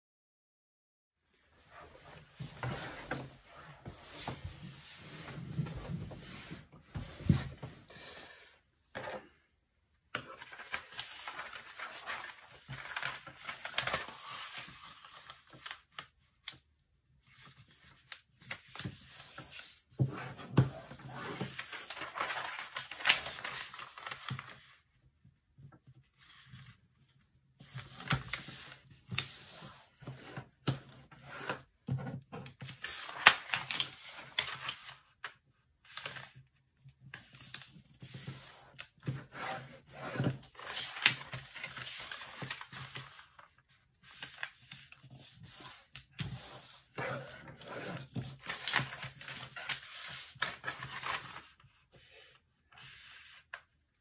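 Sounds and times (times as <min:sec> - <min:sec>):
paper rustling and crinkling: 0:01.6 - 0:07.9, 0:10.1 - 0:16.6, 0:17.2 - 0:25.0, 0:25.6 - 0:31.7, 0:32.4 - 0:53.8.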